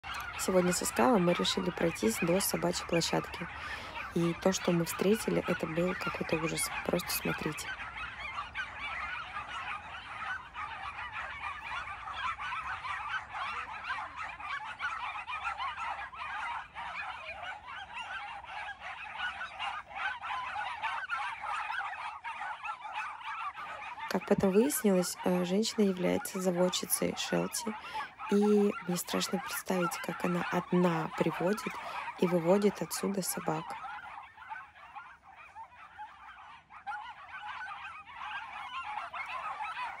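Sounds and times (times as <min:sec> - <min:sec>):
many dogs barking: 0:00.0 - 0:40.0.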